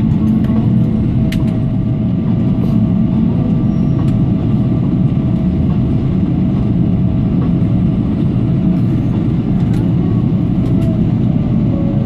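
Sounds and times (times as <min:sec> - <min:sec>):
low rumble of jet engines idling: 0:00.0 - 0:12.0.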